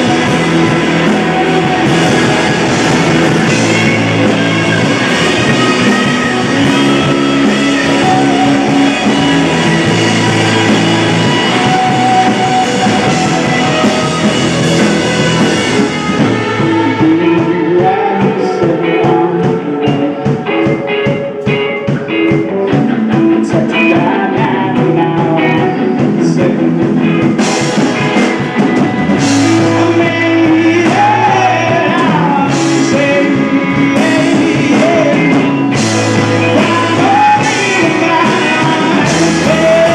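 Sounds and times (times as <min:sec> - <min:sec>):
drums: 0:00.0 - 0:39.9
guitar: 0:00.0 - 0:39.9
live rock band playing: 0:00.0 - 0:39.9
person singing: 0:00.0 - 0:39.9.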